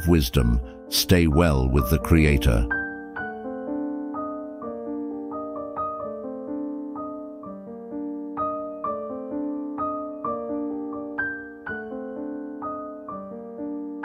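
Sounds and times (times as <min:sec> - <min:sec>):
slow solo piano: 0:01.8 - 0:14.0.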